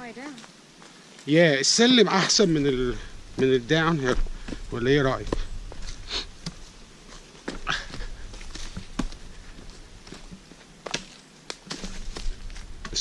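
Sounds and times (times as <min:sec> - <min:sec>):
footsteps on walking track: 0:02.1 - 0:13.0.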